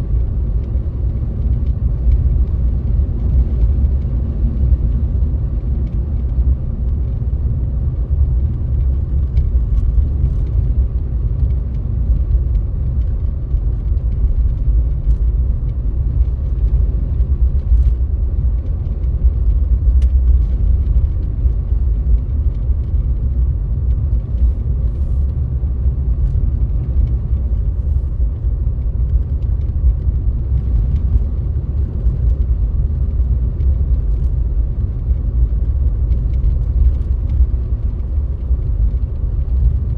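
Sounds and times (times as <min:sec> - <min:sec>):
car driving low rumble: 0:00.0 - 0:39.9.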